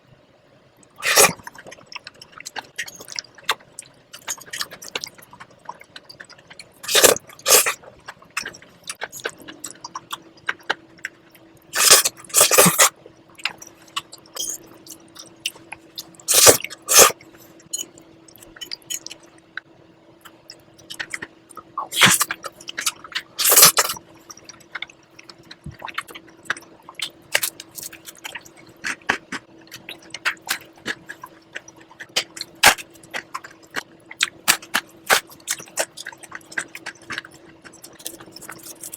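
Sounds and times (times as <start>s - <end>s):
faint steady hum: 0.0s - 38.9s
wet chewing and lip-smacking: 1.1s - 38.9s.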